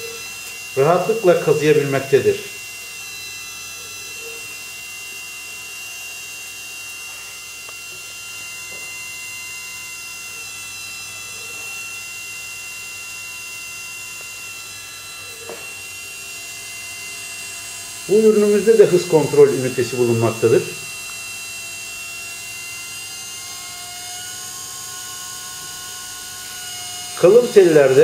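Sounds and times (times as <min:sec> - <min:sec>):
wire stripping machine whine: 0:00.0 - 0:28.0.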